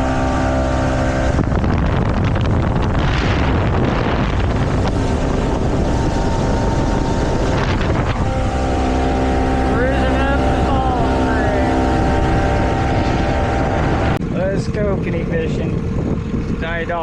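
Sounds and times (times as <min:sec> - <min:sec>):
motorboat engine: 0:00.0 - 0:17.0
wind noise on microphone: 0:00.0 - 0:17.0.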